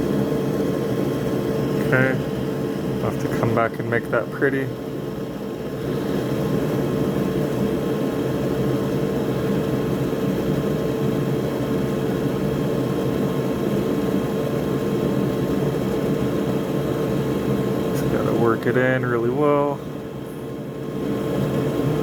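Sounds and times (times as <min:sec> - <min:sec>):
constant hum: 0:00.0 - 0:22.0
extractor fan whirring: 0:00.0 - 0:22.0.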